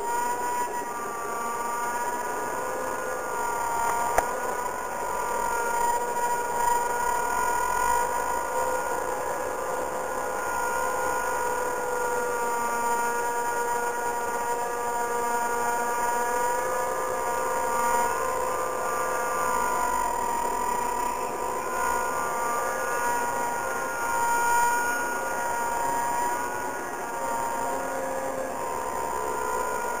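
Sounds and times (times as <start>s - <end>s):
high-pitched machine whine: 0.0s - 30.0s.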